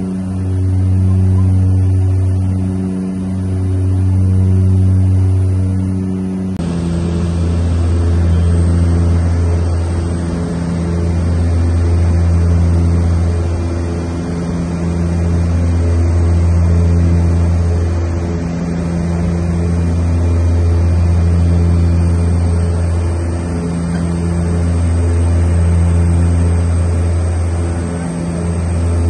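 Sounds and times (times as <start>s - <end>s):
propeller aircraft cabin drone: 0.0s - 29.0s.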